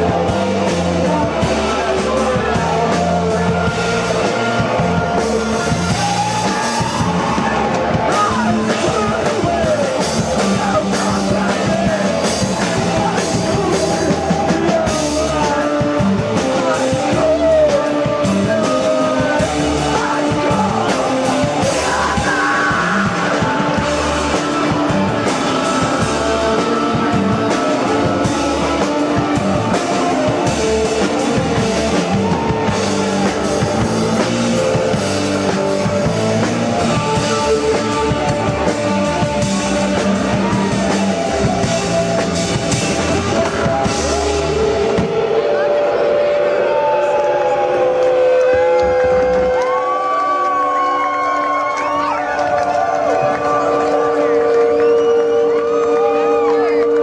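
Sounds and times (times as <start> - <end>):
person singing: 0.0 - 47.1
bass: 0.0 - 57.0
drum kit: 0.0 - 57.0
electric guitar: 0.0 - 57.0.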